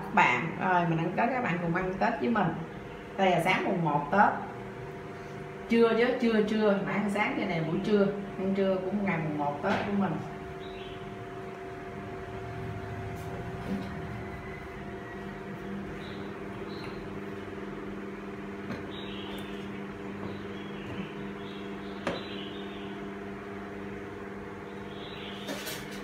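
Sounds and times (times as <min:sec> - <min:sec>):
machine hum with fixed tones: 0:00.0 - 0:26.0.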